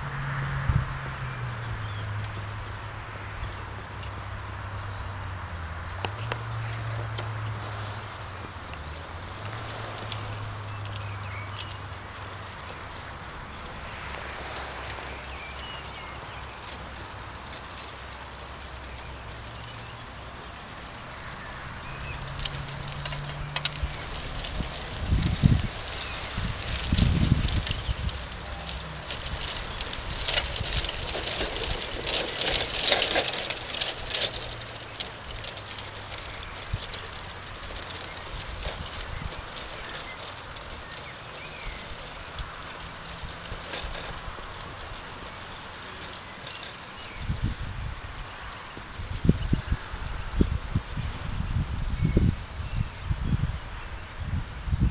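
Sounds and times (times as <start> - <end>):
wheels clicking over rail joints: 0.0 - 54.8
small birds chirping: 1.6 - 5.3, 8.3 - 54.3.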